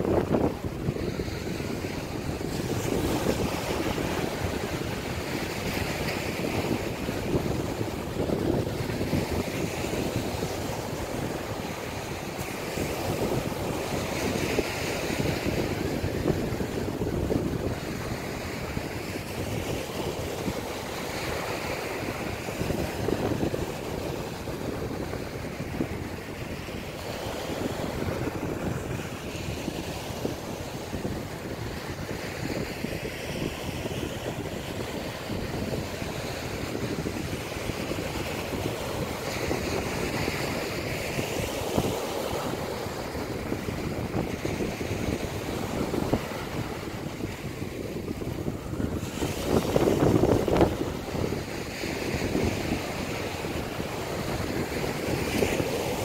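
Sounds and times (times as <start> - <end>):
small waves breaking on beach: 0.0 - 56.0
wind rumble on microphone: 0.0 - 56.0.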